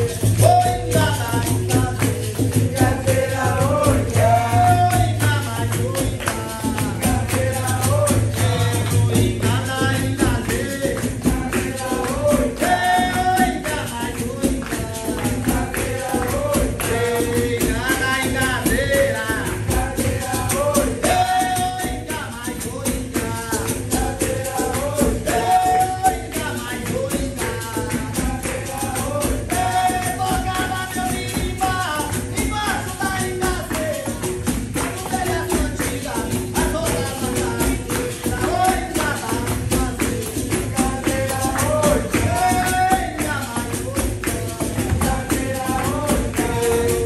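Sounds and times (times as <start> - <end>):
percussion rhythm: 0.0 - 47.0
tambourine-like jingles: 0.0 - 47.0
voices singing: 0.0 - 47.0.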